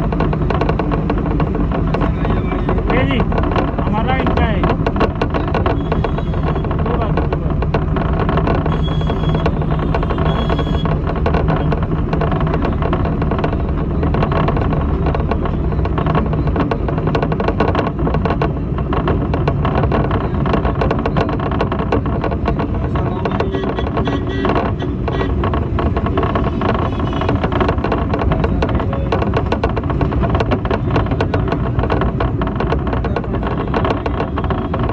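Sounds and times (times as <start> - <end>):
bus body rattling: 0.0 - 34.9
bus engine rumble: 0.0 - 34.9.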